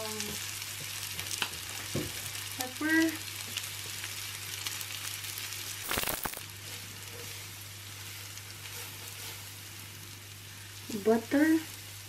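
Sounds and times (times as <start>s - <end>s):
butter sizzling in skillet: 0.0s - 12.0s
onions frying: 0.0s - 12.0s.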